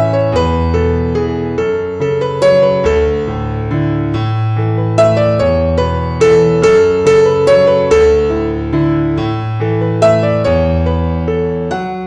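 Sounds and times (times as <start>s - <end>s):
electric piano notes and chords: 0.0s - 12.0s.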